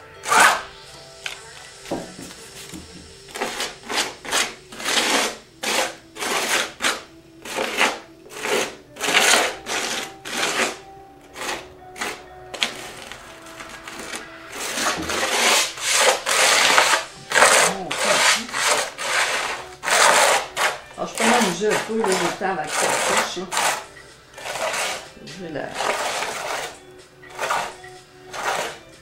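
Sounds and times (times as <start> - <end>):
putty knife scraping paste: 0.2 - 0.7, 2.6 - 28.9.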